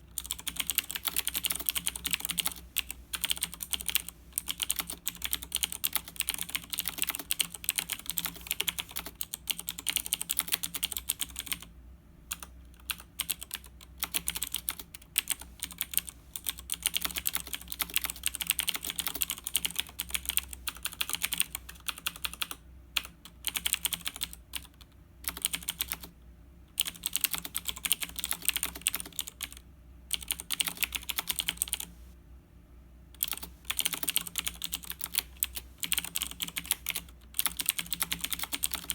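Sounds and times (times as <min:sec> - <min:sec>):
mechanical keyboard typing: 0:00.1 - 0:11.7, 0:12.3 - 0:26.1, 0:26.8 - 0:31.9, 0:33.2 - 0:38.9.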